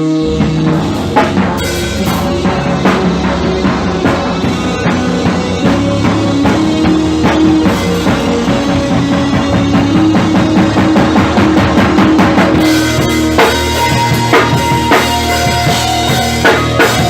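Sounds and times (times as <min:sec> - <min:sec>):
drum kit beat: 0:00.0 - 0:17.0
sustained pitched notes: 0:00.0 - 0:17.0.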